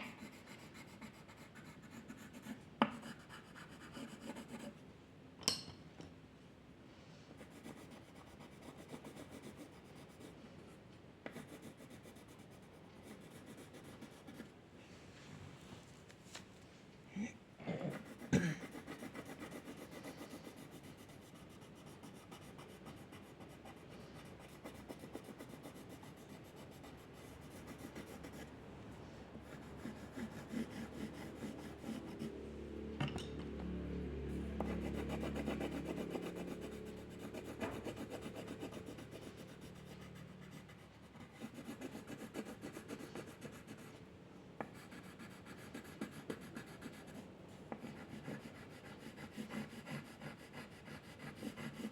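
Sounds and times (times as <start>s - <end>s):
pencil scratching on paper: 0.0s - 4.8s, 7.4s - 10.4s, 11.3s - 14.5s, 17.9s - 28.6s, 29.4s - 32.4s, 34.3s - 44.0s, 44.6s - 51.9s.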